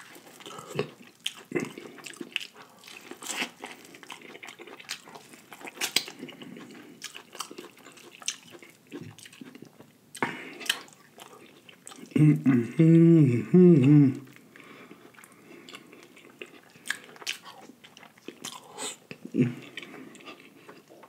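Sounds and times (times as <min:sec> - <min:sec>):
person chewing corn on the cob: 0:00.0 - 0:12.2, 0:14.2 - 0:21.0.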